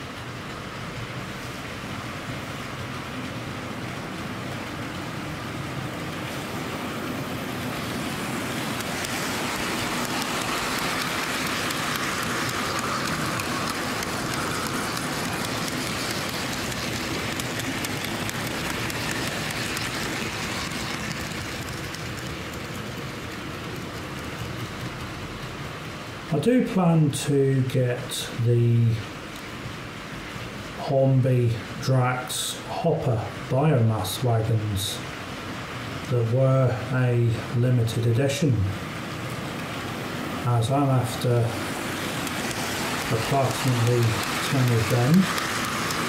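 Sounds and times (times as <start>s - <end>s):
model train wheels rumbling and clicking: 0.0s - 46.0s.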